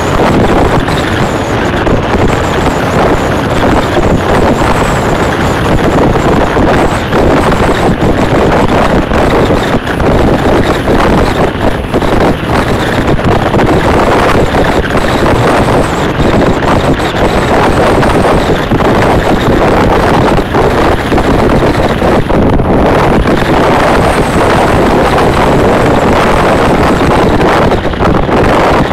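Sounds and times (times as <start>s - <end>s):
train running noise: 0.0s - 28.9s
wind buffeting microphone: 0.0s - 28.9s.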